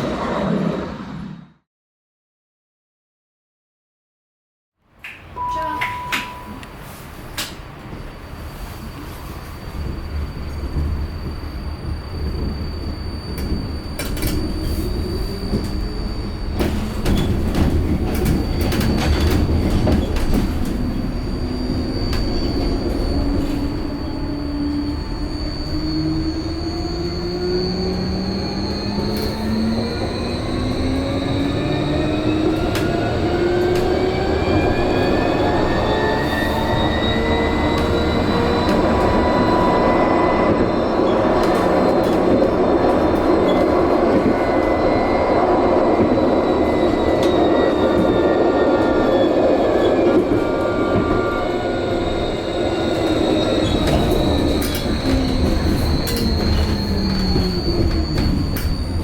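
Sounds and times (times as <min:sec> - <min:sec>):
wheels rumbling on rail: 0:05.2 - 0:59.0
tram motor whine: 0:05.4 - 0:59.0.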